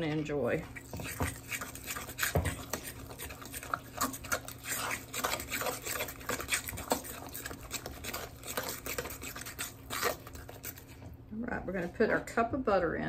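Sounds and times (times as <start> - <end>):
utensil stirring thick batter: 0.0 - 11.9.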